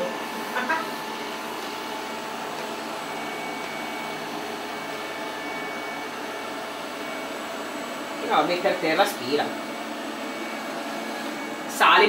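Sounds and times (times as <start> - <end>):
robot vacuum running: 0.0 - 12.0.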